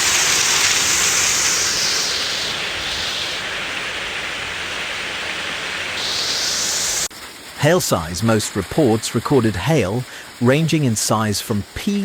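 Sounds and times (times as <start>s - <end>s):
heavy rain pouring: 0.0s - 10.8s.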